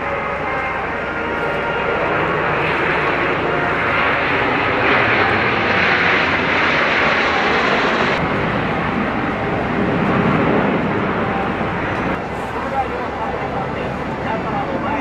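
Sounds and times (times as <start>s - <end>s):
jet engine noise: 0.0s - 15.0s.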